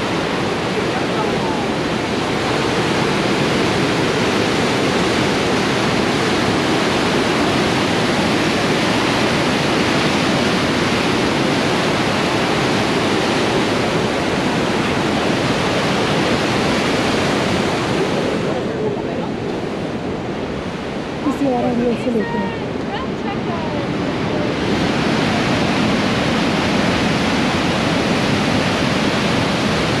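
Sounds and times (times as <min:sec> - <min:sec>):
waterfall rapids rushing: 0:00.0 - 0:30.0.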